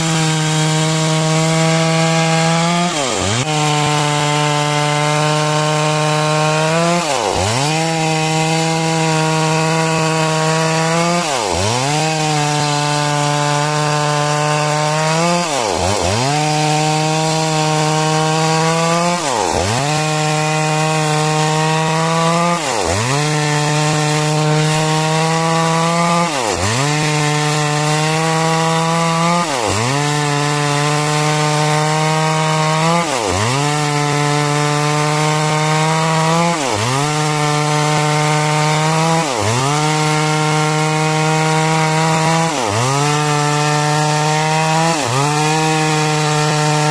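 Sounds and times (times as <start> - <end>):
chainsaw cutting timber: 0.0 - 46.9.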